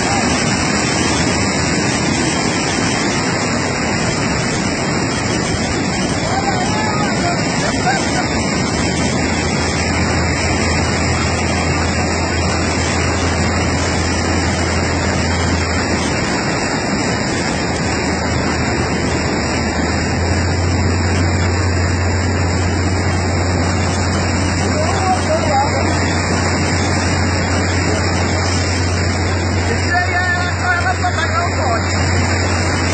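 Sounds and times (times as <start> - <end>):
boat engine humming: 0.0 - 32.9
churning river water: 0.0 - 32.9.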